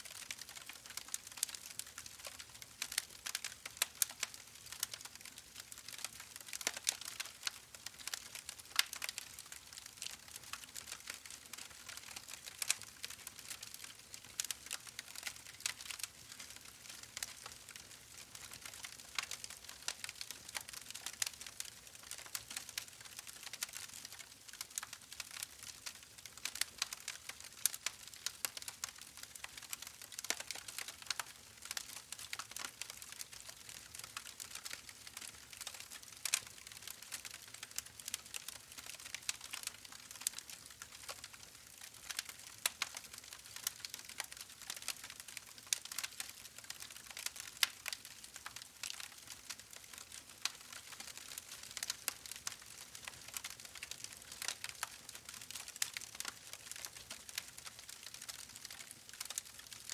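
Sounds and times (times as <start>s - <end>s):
wood fire crackling in a fireplace: 0.0s - 59.9s.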